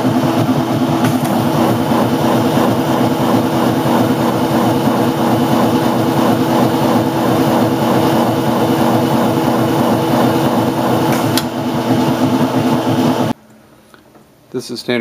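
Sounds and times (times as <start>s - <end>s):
plucker motor steady tone: 1.0s - 13.3s.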